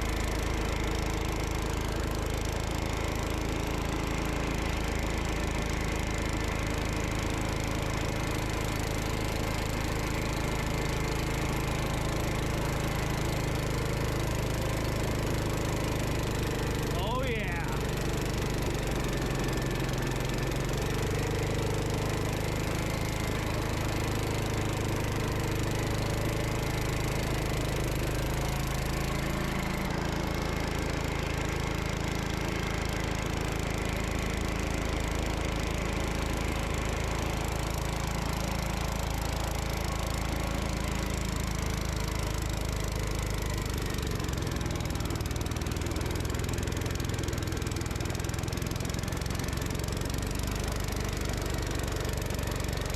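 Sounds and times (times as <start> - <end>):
snow blower engine running: 0.0 - 52.9.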